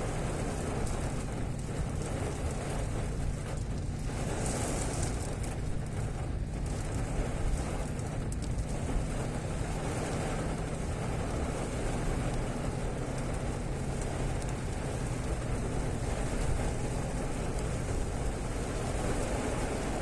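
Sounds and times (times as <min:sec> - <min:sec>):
heavy rain falling: 0:00.0 - 0:20.0
low even rumble: 0:00.0 - 0:20.0.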